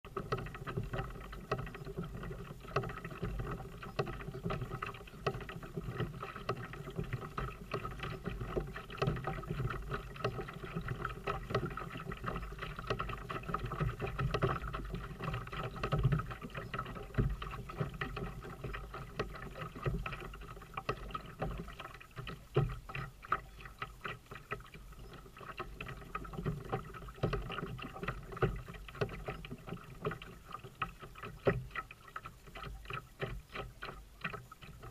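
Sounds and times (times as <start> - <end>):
waves lapping against kayak hull: 0.1 - 34.9.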